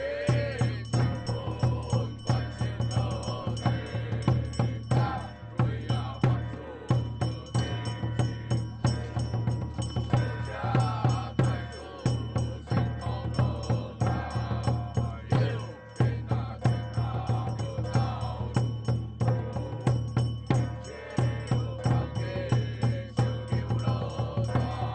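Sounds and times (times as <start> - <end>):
steady percussion strikes: 0.0 - 24.9
wavering chanted melody: 0.0 - 24.9.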